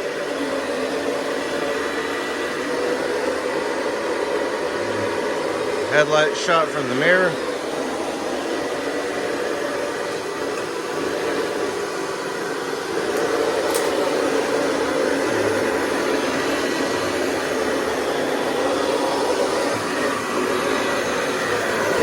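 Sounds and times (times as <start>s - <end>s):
upright vacuum running: 0.0s - 22.0s.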